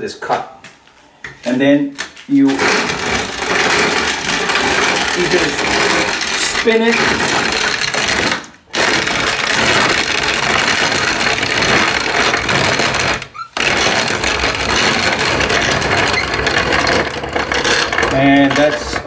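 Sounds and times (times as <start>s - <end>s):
hand-cranked grinder grinding corn: 2.3s - 19.0s.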